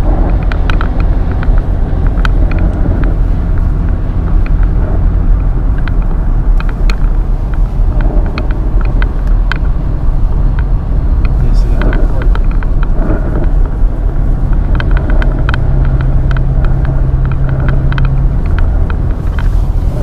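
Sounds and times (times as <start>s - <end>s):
car driving rumble inside cabin: 0.0s - 20.0s
rain ticking on car: 0.0s - 20.0s.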